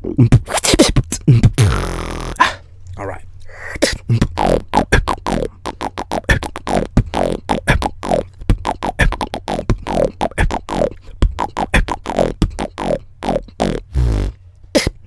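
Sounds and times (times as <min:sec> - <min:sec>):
beatboxing mouth percussion: 0:00.0 - 0:15.0.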